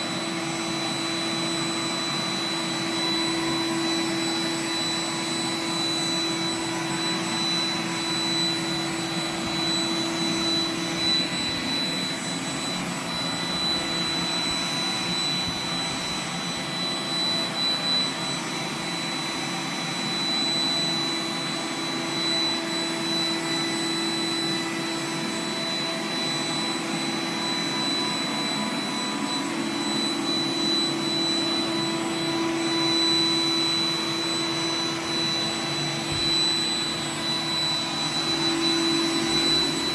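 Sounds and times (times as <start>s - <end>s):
robot vacuum whirring: 0.2s - 39.9s.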